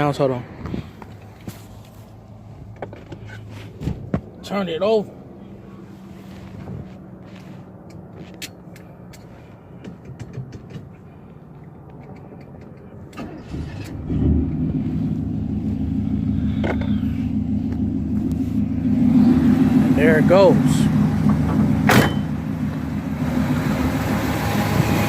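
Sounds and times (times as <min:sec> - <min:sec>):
car engine starting and idling: 0:00.0 - 0:25.0.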